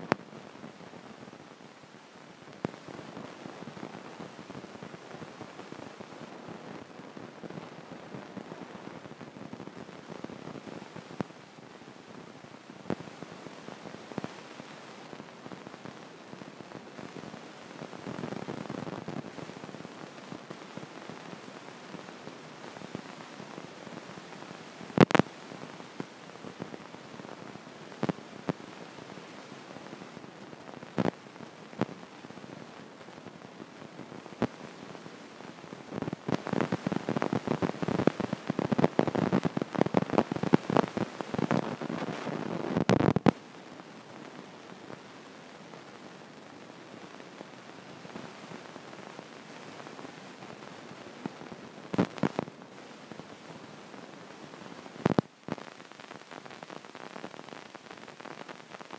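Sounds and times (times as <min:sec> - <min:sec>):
faint steady hiss: 0:00.0 - 0:58.9.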